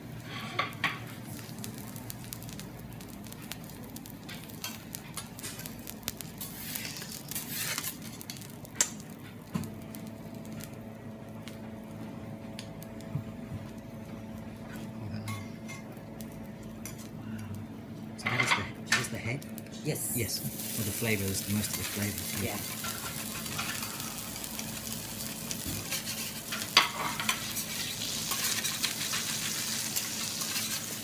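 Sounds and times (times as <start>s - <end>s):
food sizzling: 0.0s - 11.9s, 18.1s - 31.0s
steady low hum: 0.0s - 31.0s.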